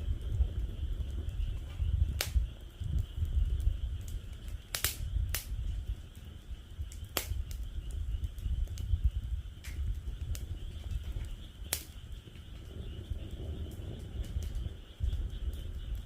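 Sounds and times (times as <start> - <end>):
fire pops: 0.0 - 16.0
frogs chorus: 0.0 - 16.0
wood fire crackling: 0.0 - 16.0.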